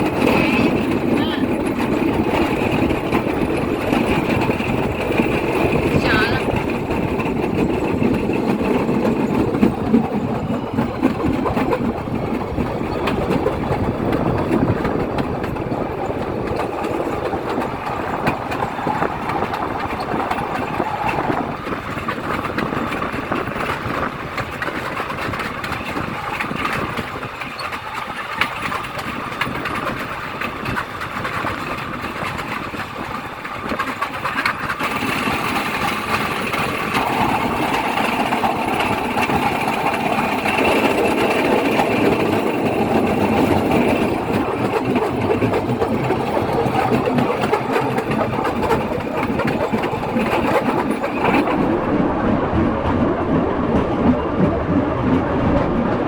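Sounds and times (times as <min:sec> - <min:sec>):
noisy rush: 0:00.0 - 0:56.0.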